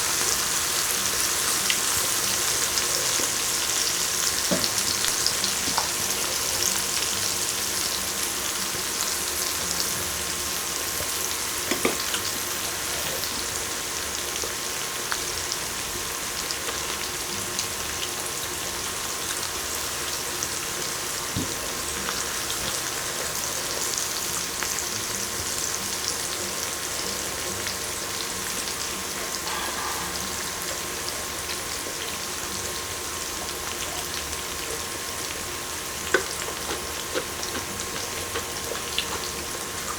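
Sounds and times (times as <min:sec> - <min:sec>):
food sizzling on a grill: 0:00.0 - 0:39.9.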